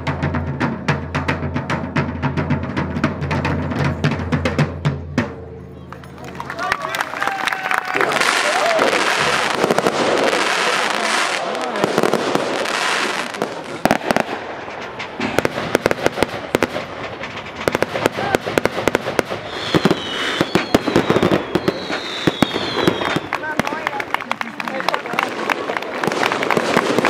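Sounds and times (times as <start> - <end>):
fireworks crackling bangs: 0.0 - 5.6, 7.2 - 27.0.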